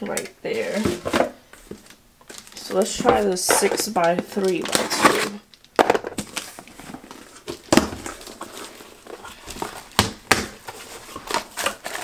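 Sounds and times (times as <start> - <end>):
plastic wrapping rustling: 0.5 - 12.0.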